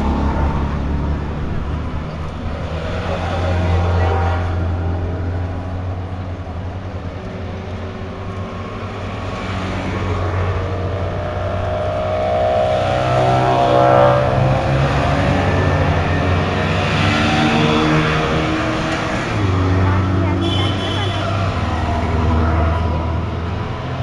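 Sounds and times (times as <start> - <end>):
small two-stroke cars driving past: 0.0 - 24.0.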